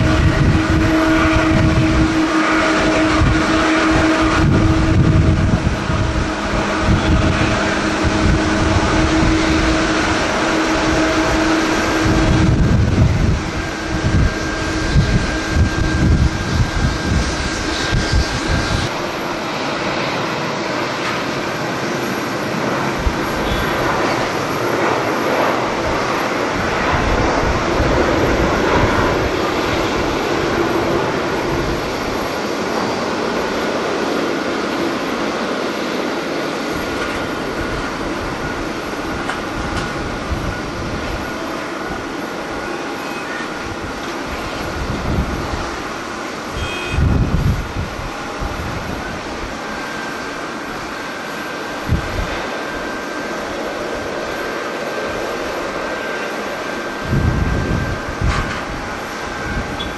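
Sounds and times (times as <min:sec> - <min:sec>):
wind buffeting microphone: 0:00.0 - 0:42.7, 0:43.4 - 0:59.9
jet engines roaring: 0:00.0 - 0:59.9.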